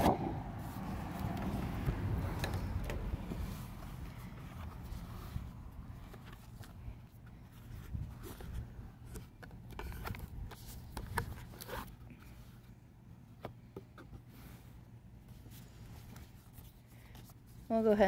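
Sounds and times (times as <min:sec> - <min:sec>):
cardboard and paper rustling: 0:00.0 - 0:18.0.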